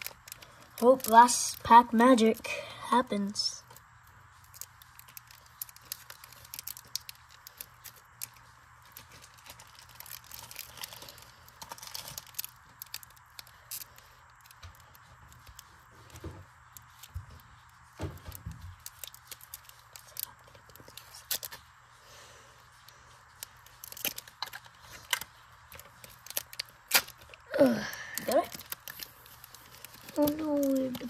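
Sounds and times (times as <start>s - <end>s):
foil wrapper crinkling: 0.0s - 31.0s.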